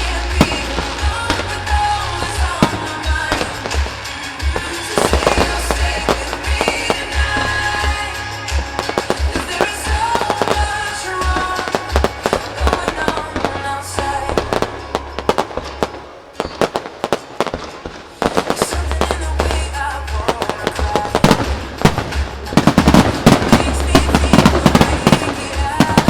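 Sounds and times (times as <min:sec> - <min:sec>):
music with bass beat: 0:00.0 - 0:16.7, 0:18.3 - 0:26.0
fireworks bursting and crackling: 0:00.0 - 0:26.0.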